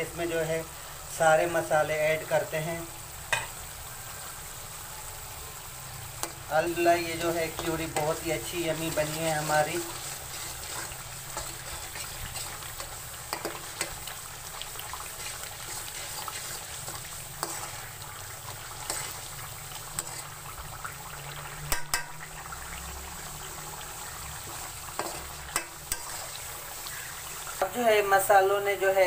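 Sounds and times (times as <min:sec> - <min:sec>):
masala sizzling in oil: 0:00.0 - 0:29.0.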